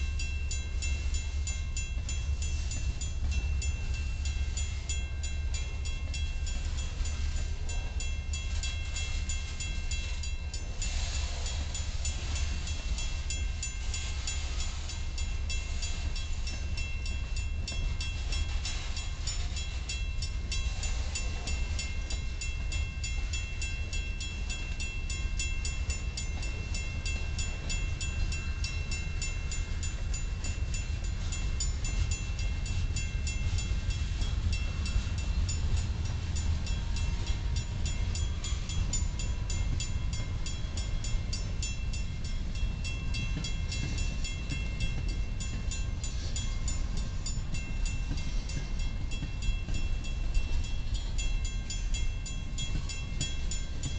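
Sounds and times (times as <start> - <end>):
crossing bell ringing: 0.0 - 53.9
freight train rumbling past: 0.0 - 53.9.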